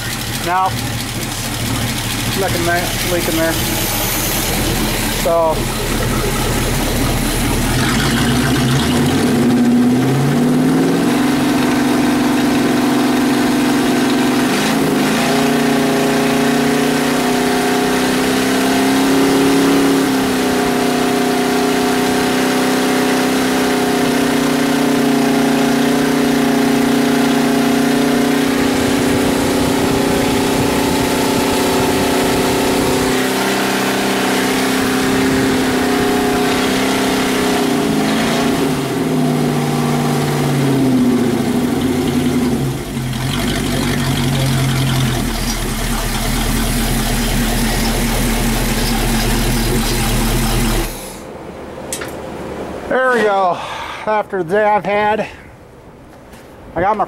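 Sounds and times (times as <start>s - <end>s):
car engine revving: 0.0s - 51.8s.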